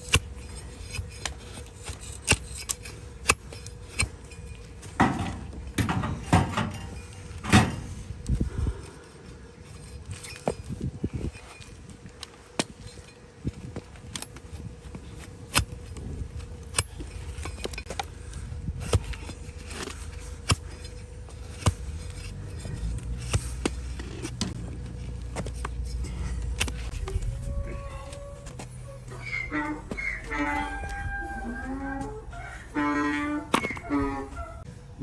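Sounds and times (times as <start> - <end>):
hoof cracking as it is cut: 0.0 - 32.2
scraping of hoof: 0.0 - 34.7.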